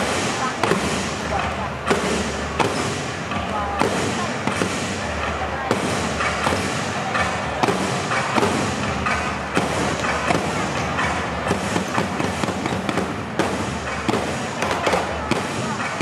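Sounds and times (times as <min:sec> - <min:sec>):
echoing crowd noise: 0:00.0 - 0:16.0
sharp claps and knocks: 0:00.0 - 0:16.0.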